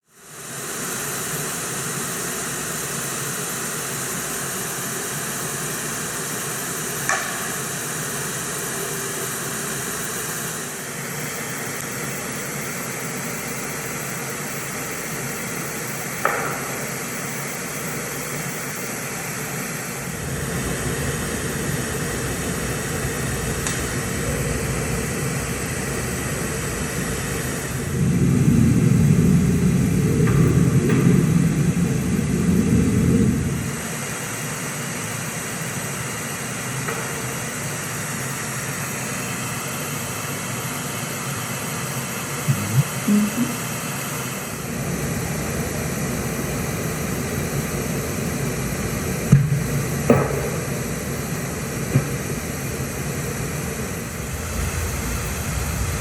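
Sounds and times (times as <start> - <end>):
outdoor night ambience hiss: 0.1 - 56.0.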